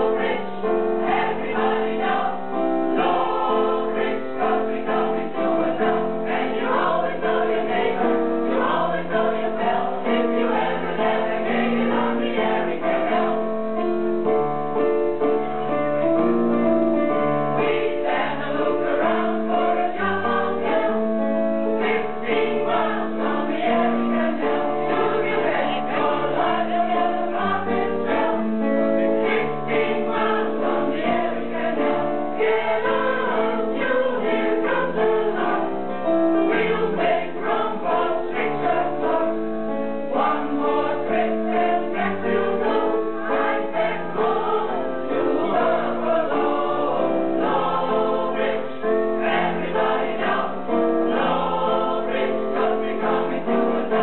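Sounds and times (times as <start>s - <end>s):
mixed choir singing: 0.0s - 14.0s, 16.9s - 54.0s.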